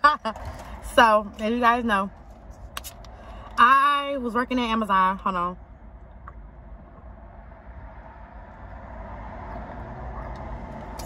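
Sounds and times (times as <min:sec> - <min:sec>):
vehicle rumble inside car: 0:00.0 - 0:11.0.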